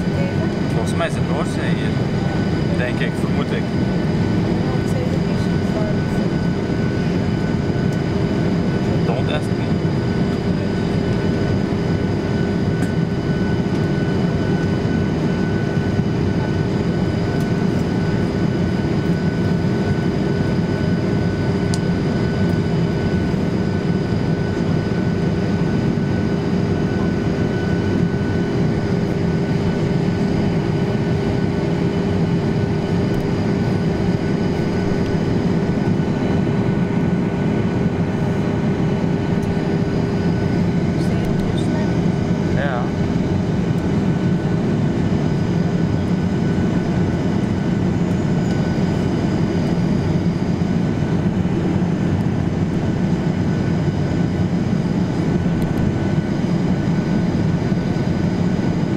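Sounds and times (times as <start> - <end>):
jet engines humming: 0.0 - 58.9.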